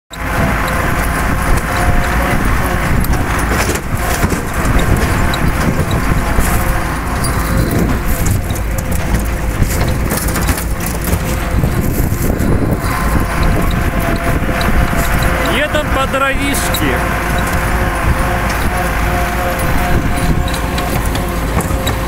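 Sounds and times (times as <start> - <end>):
clatter of knocks and rattles: 0.1 - 15.5, 17.1 - 22.0
tractor diesel engine running: 0.1 - 22.0.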